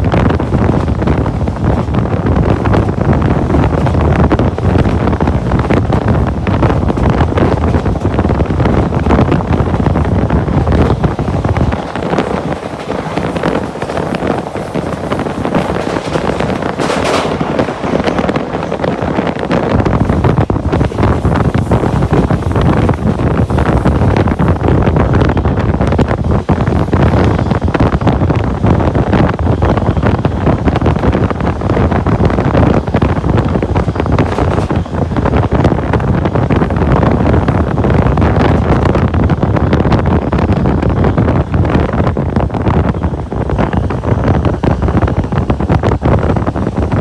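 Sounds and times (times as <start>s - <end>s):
heavy low rumble: 0.0s - 47.0s
wind buffeting microphone: 0.0s - 47.0s.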